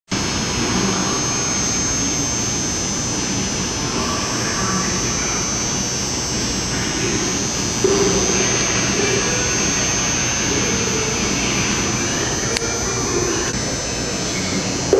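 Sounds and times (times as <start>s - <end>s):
thin high steady tone: 0.1s - 14.9s
train running roar: 0.1s - 14.9s.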